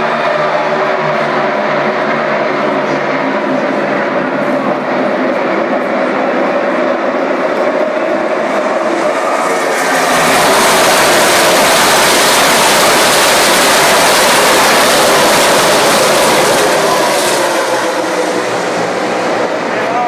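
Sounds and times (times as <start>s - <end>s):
race cars passing at speed: 0.0s - 20.0s.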